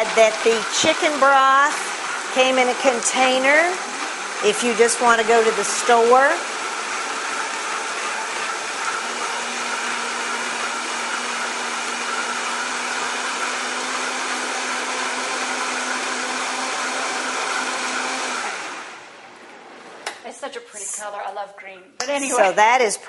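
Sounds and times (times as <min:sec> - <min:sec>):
blender running: 0:00.0 - 0:20.0.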